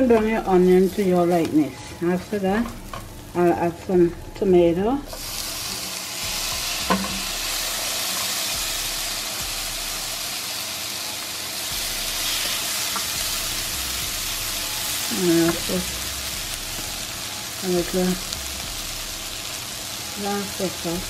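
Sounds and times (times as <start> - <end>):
tomatoes sizzling in oil: 0.0 - 21.0.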